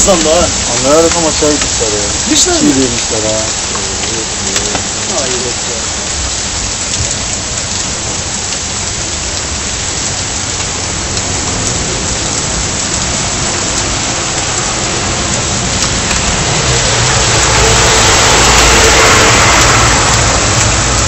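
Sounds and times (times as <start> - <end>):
heavy rain hissing: 0.0 - 21.0
vehicle engine: 0.0 - 21.0.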